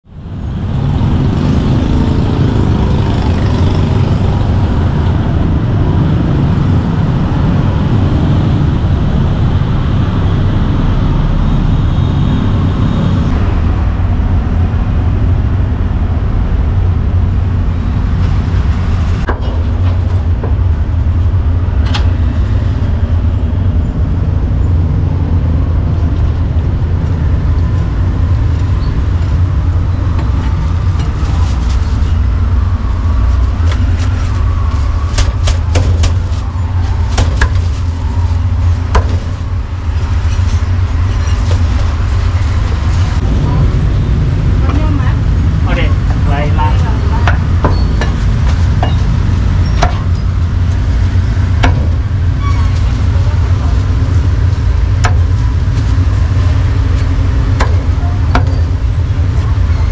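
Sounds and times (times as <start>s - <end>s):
street traffic engines rumbling: 0.0s - 59.9s.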